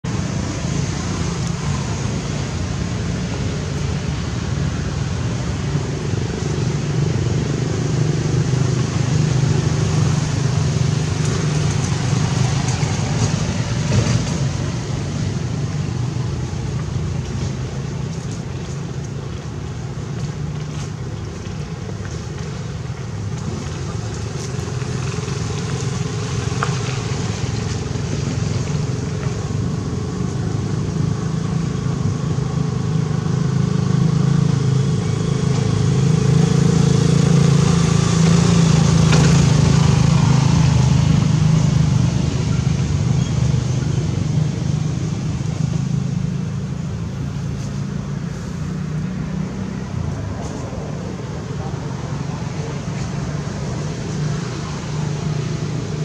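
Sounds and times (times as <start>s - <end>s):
road traffic hum: 0.0s - 56.0s.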